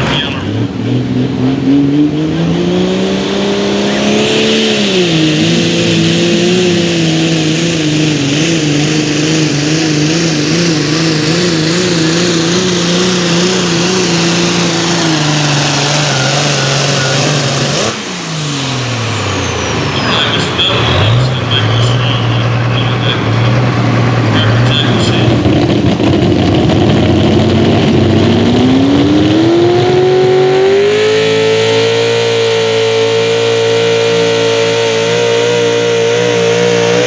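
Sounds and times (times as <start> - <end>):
high turbo whine: 0.0 - 37.0
tractor engine at full throttle: 0.0 - 37.0.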